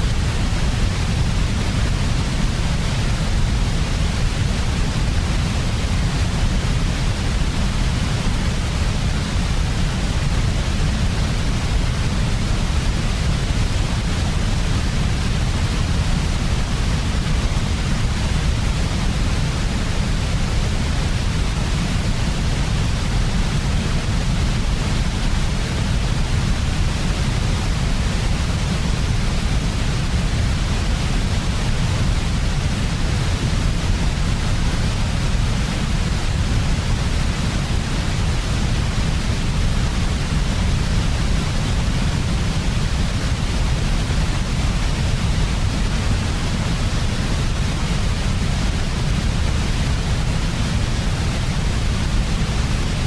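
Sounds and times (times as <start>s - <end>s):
white noise hiss with low rumble: 0.0s - 53.0s.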